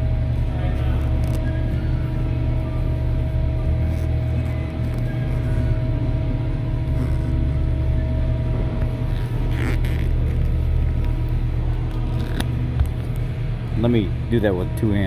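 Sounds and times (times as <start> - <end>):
constant hum: 0.0 - 15.0
low machine rumble: 0.0 - 15.0.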